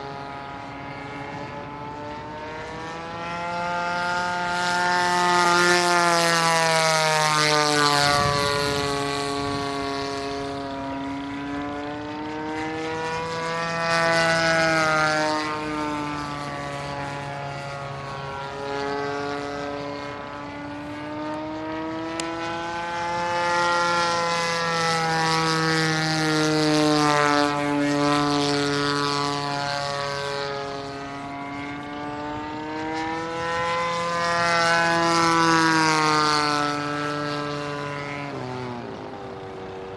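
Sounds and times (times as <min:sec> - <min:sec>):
model plane engine and propeller: 0:00.0 - 0:39.9.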